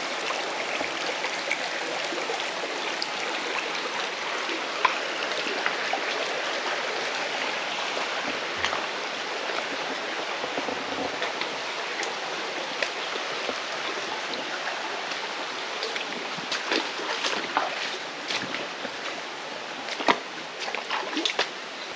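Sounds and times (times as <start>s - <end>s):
mountain stream flowing: 0.0s - 21.9s
water splashes and drips: 0.0s - 21.9s.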